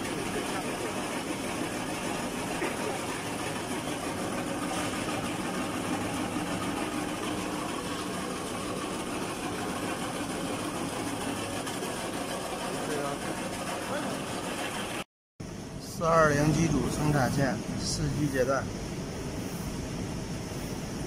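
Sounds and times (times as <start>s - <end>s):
machinery droning: 0.0s - 21.0s.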